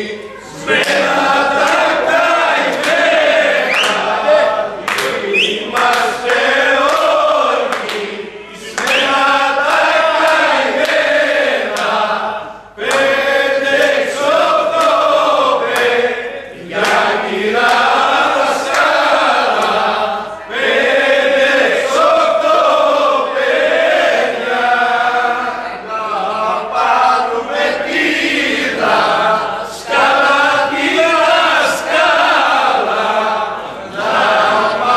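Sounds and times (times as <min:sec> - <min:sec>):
men singing together: 0:00.0 - 0:34.9.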